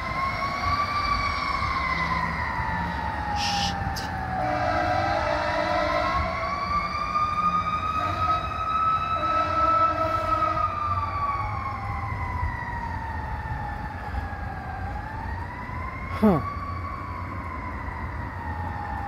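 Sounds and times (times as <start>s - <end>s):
fire engine siren winding: 0.0s - 19.0s.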